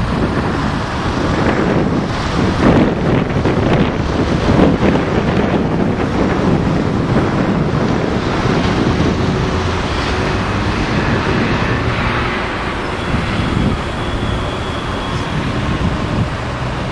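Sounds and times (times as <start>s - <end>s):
street traffic rumble: 0.0s - 16.9s
wind buffeting microphone: 0.0s - 16.9s.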